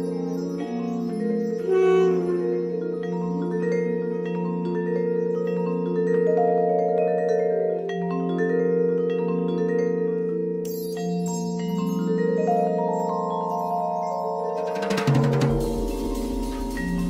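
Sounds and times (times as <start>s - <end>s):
vibraphone notes: 0.0s - 17.0s.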